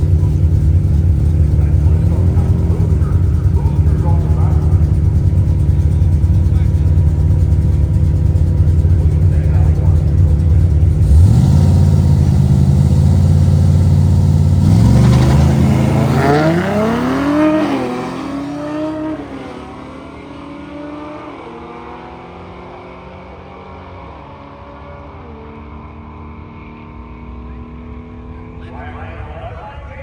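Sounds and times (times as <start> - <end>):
drag racing car engine at full throttle: 0.0 - 30.0
faint engine: 0.0 - 30.0.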